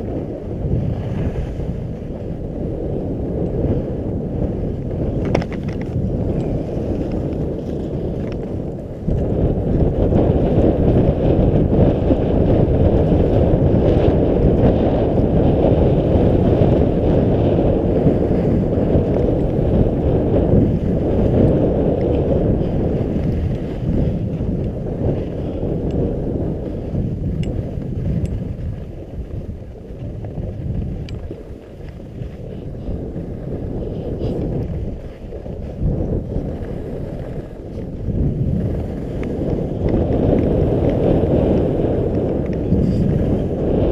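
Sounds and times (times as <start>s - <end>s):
skis scraping over snow: 0.0s - 43.9s
wind buffeting microphone: 0.0s - 43.9s.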